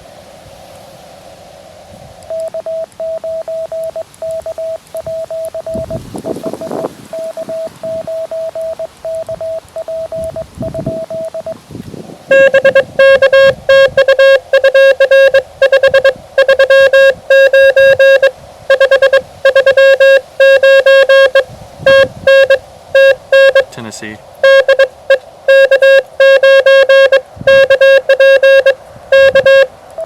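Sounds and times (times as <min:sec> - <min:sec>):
faint high morse tone: 0:02.3 - 0:11.6, 0:12.3 - 0:23.8, 0:24.4 - 0:24.9, 0:25.5 - 0:30.0
loud buzzy morse tone: 0:02.3 - 0:11.6, 0:12.3 - 0:23.8, 0:24.4 - 0:30.0.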